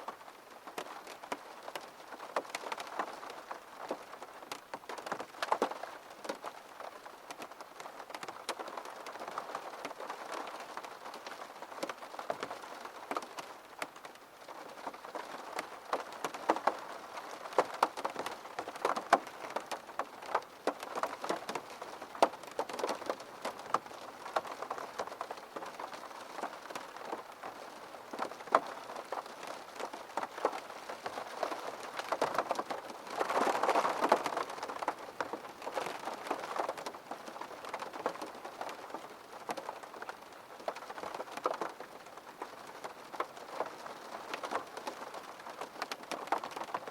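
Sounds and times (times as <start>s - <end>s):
rain hitting window glass: 7.2s - 46.9s.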